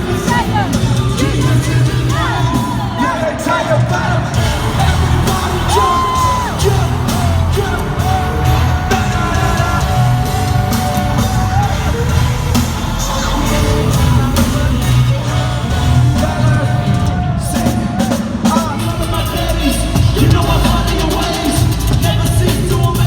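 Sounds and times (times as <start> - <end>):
drums: 0.0 - 23.0
heavy bass: 0.0 - 23.0
live band playing loud: 0.0 - 23.0
person singing: 0.0 - 23.0.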